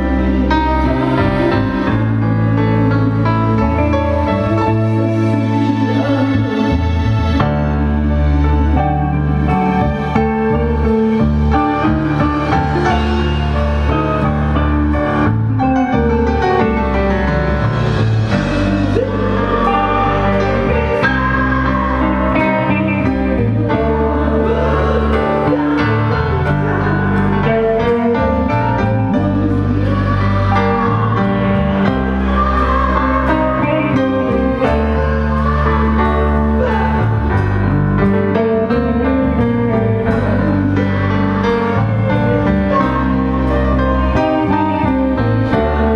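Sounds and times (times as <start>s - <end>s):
live band playing pop song: 0.0s - 45.9s.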